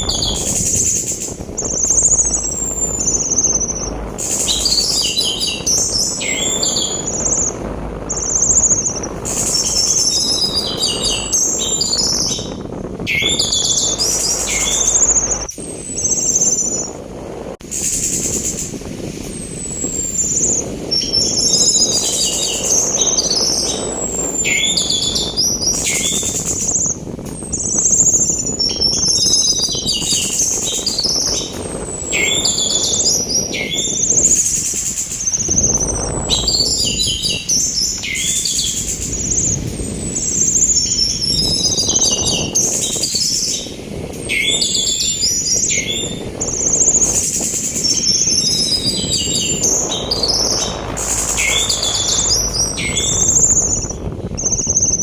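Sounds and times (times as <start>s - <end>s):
thrush singing: 0.0s - 15.5s, 20.6s - 54.1s
sea noise: 0.0s - 55.0s
wind: 0.0s - 55.0s.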